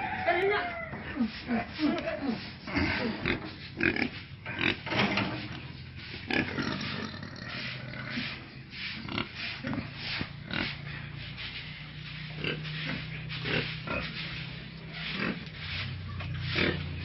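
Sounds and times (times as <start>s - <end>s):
pigs grunting: 1.0s - 17.0s.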